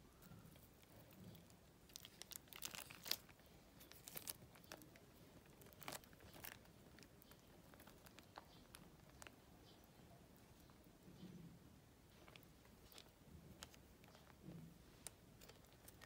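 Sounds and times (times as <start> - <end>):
thin plastic crinkling: 0.1 - 9.8, 12.1 - 16.0.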